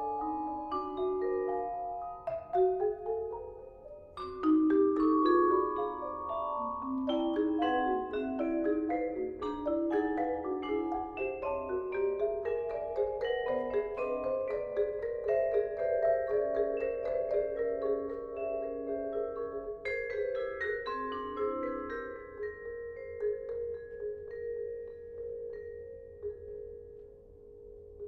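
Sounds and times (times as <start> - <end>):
vibraphone notes ringing: 0.0 - 27.8
marimba notes: 0.0 - 28.0.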